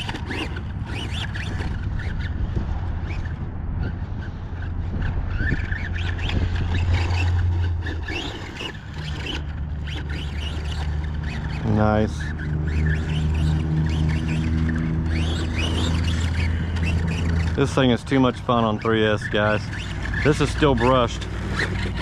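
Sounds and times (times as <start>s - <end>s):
electric motor whining: 0.0s - 22.0s
steady low hum: 0.0s - 22.0s.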